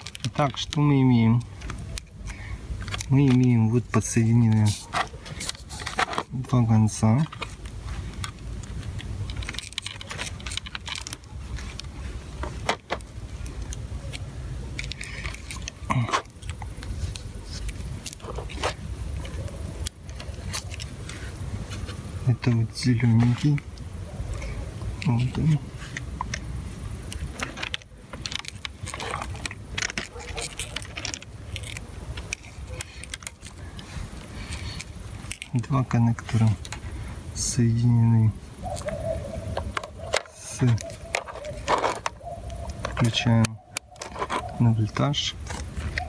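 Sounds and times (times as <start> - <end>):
metallic clicks of wires handled: 0.0 - 21.2, 21.9 - 37.6, 38.6 - 46.0.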